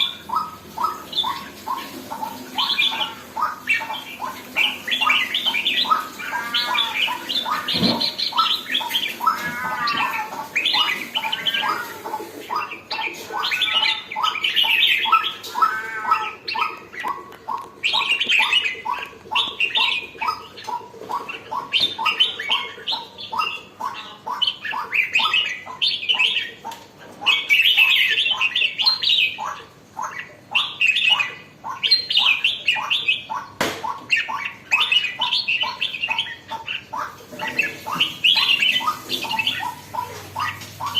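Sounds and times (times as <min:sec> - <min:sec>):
bird singing and chattering: 0:00.0 - 0:40.9.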